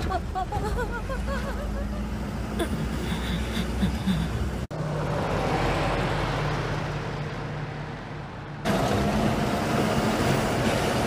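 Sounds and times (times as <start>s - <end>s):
truck engines rumbling: 0.0s - 11.0s.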